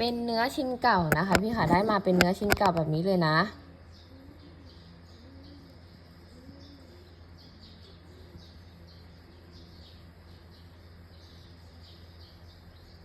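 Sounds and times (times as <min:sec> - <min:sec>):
faint low hum: 0:00.0 - 0:13.0
small birds chirping: 0:00.0 - 0:13.0.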